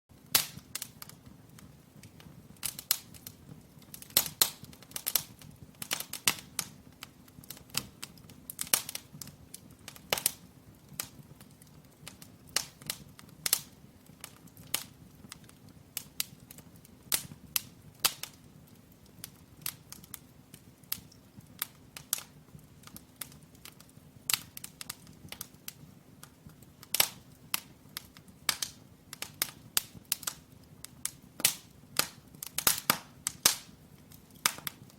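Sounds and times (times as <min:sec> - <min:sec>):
firewood crackling and popping: 0:00.1 - 0:34.9.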